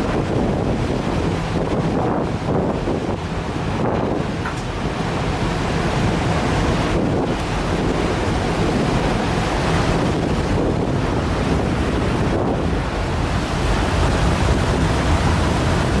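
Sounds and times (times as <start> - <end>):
water washing: 0.0 - 16.0
wind buffeting microphone: 0.0 - 16.0.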